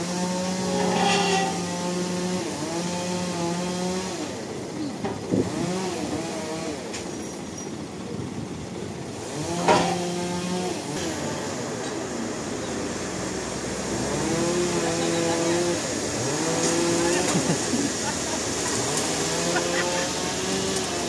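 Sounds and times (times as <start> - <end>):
sawmill saw running: 0.0 - 7.4, 8.7 - 21.0.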